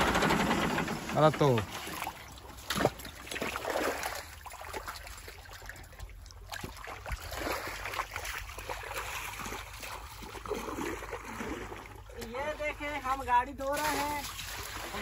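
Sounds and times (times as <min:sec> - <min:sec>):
water rushing around tyres: 0:00.0 - 0:15.0
water sloshing: 0:00.0 - 0:15.0.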